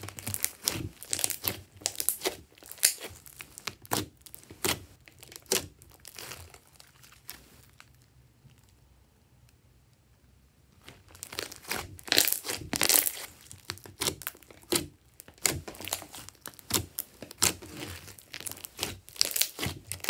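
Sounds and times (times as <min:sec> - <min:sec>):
slime popping and squelching: 0:00.0 - 0:07.4, 0:10.8 - 0:20.0.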